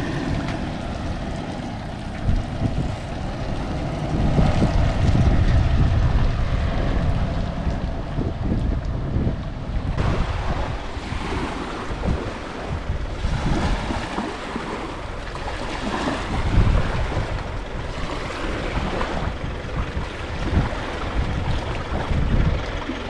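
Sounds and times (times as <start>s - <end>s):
water washing: 0.0s - 23.0s
wind buffeting microphone: 0.0s - 23.0s.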